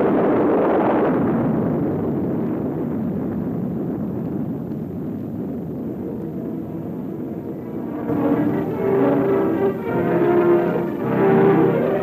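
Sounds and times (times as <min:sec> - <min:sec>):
explosion rumbling roar: 0:00.0 - 0:12.0.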